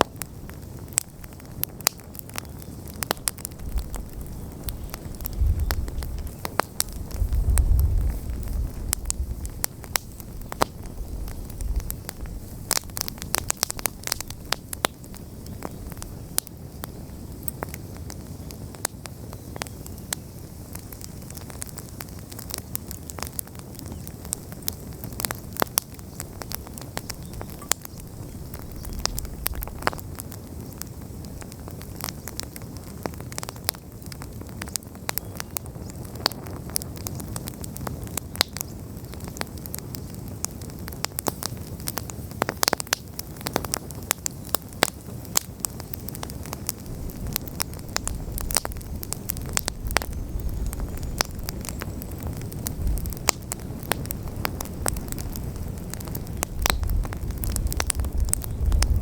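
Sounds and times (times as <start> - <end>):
burning logs crackling and popping: 0.0 - 59.0
campfire hissing: 0.0 - 59.0.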